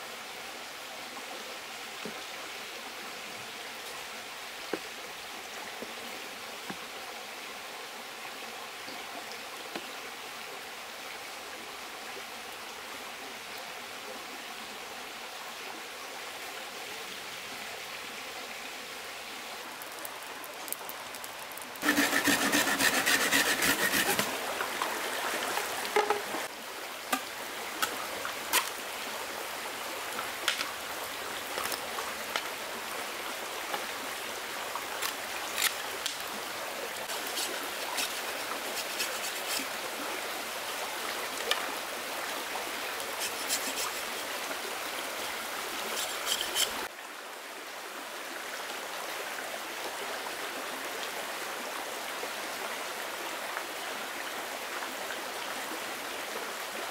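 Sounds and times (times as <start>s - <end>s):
stream water running: 0.0s - 56.9s.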